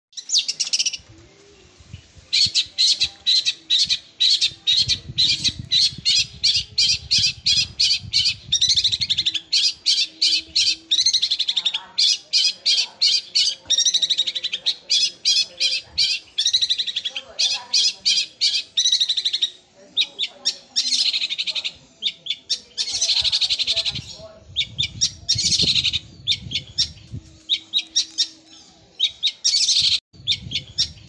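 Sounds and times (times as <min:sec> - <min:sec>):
shrike chattering song: 0:02.3 - 0:31.0.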